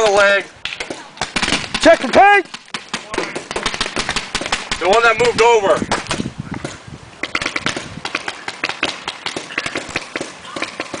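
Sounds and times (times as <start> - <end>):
paintball markers firing: 0.6 - 11.0.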